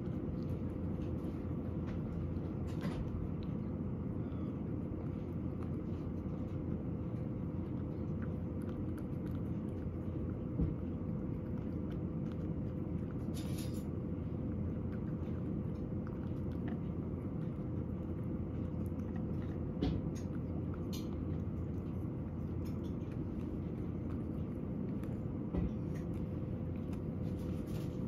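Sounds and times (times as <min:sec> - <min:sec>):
cat licking and chewing: 0:00.0 - 0:28.0
low hum: 0:00.0 - 0:28.0.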